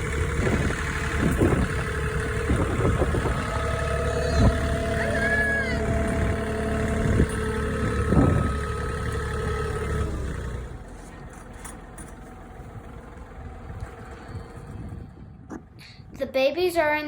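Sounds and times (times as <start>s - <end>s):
vehicle engine idling: 0.0s - 15.3s.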